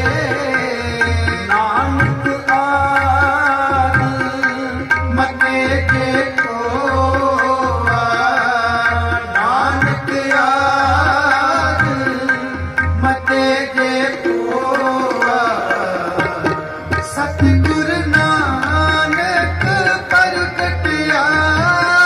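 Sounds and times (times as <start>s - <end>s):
harmoniums sustaining a melody: 0.0s - 22.0s
tabla drumming: 0.0s - 22.0s.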